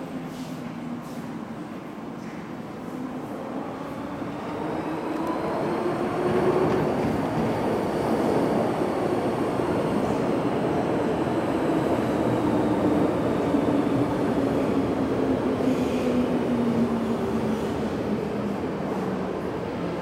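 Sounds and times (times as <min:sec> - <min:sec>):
electric train passing through station: 0:00.0 - 0:20.0.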